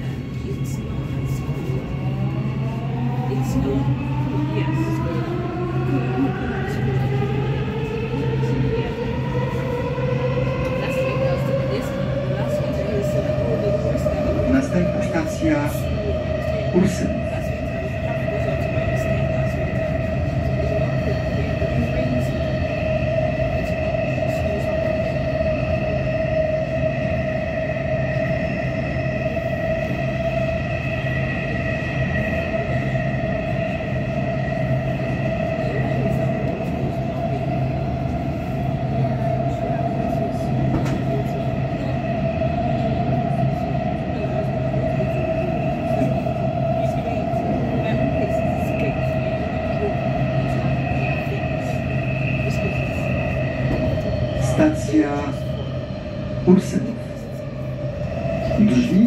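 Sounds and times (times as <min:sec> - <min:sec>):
train rumbling in tunnel: 0:00.0 - 0:59.0.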